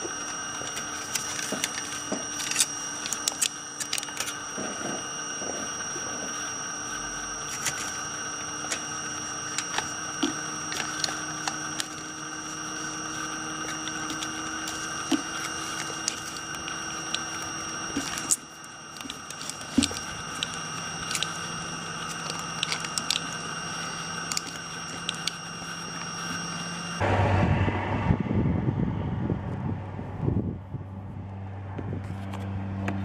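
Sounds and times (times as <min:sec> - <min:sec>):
diesel engine running: 0:00.0 - 0:33.0
high whine and hum: 0:00.0 - 0:33.0.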